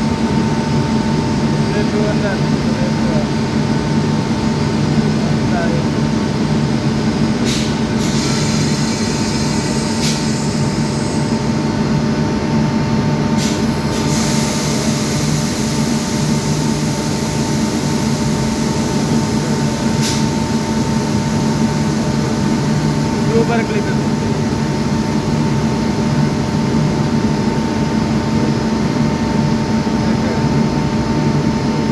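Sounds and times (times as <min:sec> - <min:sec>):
air compressor droning: 0:00.0 - 0:31.9.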